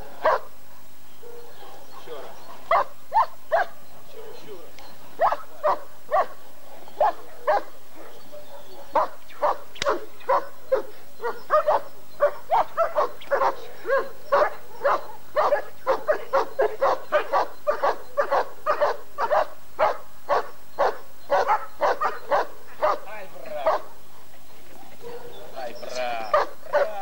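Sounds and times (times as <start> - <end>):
dog barking: 0.2 - 0.5, 1.2 - 2.1, 2.7 - 3.8, 5.2 - 6.4, 7.0 - 23.9, 25.0 - 25.5, 26.2 - 27.0.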